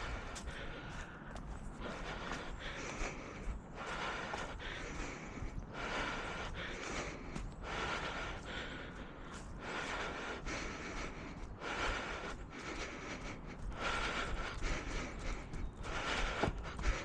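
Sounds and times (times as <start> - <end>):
runner breathing hard: 0.0 - 17.0.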